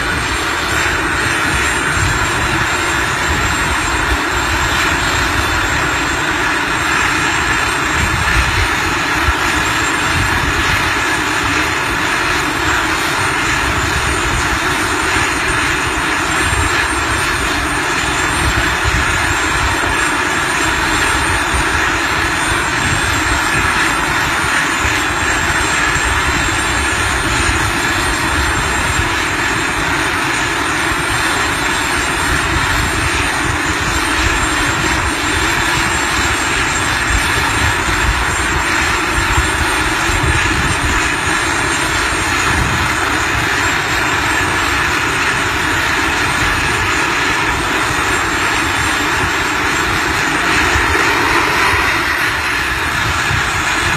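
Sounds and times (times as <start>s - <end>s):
small jet turbines running: 0.0s - 53.9s.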